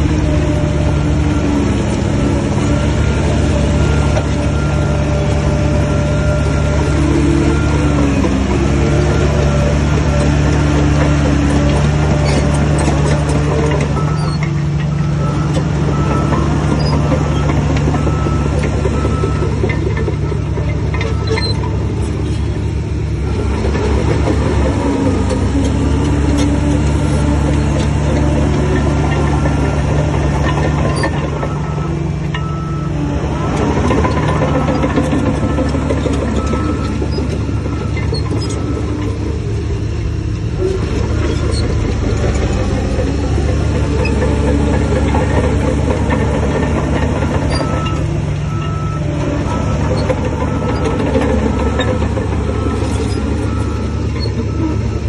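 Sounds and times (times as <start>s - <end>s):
heavy machine diesel engine: 0.0s - 55.0s.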